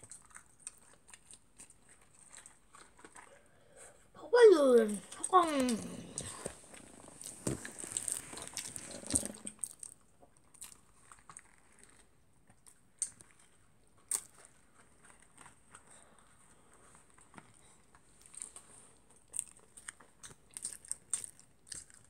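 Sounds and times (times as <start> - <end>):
person chewing food: 0.0 - 4.1, 5.0 - 22.0.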